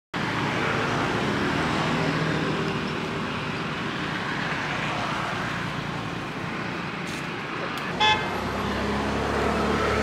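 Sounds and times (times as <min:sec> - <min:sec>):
road traffic noise: 0:00.1 - 0:10.0
vehicle engine hum: 0:00.2 - 0:10.0.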